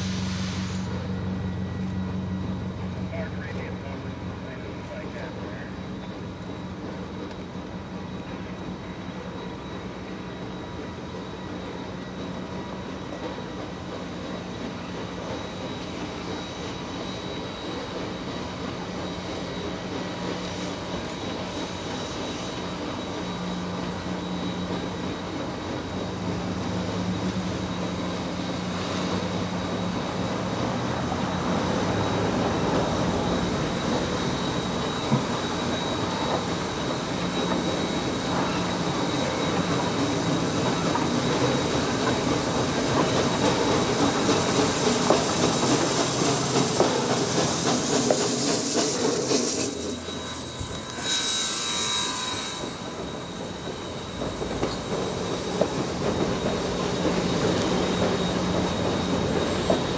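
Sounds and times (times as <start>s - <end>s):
train rumbling and humming: 0.0s - 59.9s.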